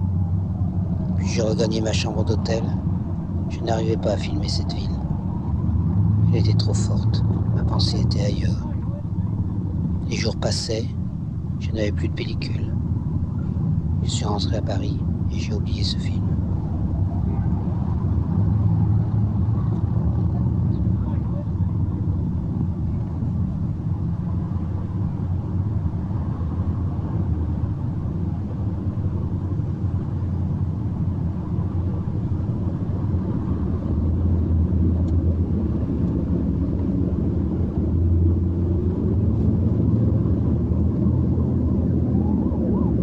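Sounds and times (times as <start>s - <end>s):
low rumble of city traffic: 0.0s - 43.0s.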